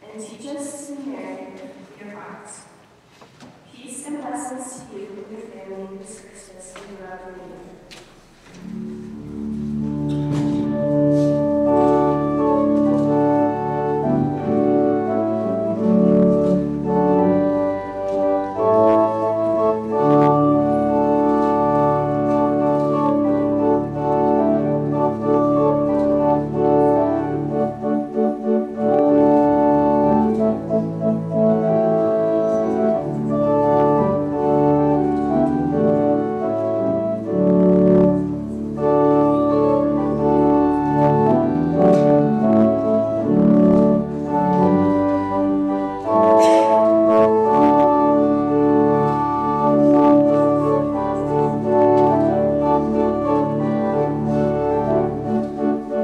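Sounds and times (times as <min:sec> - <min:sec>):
organ playing slow chords: 0:06.1 - 0:56.0.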